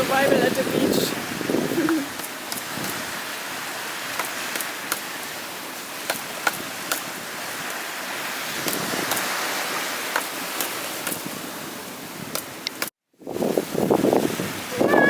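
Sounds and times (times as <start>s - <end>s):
surf hissing: 0.0s - 12.9s, 13.6s - 15.0s.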